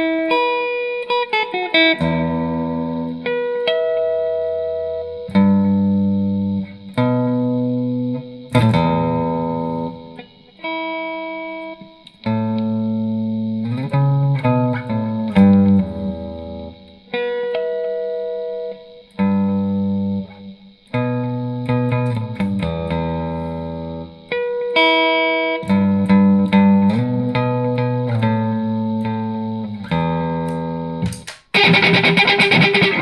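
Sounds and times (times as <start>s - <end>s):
electric guitar rock chords: 0.0s - 33.0s.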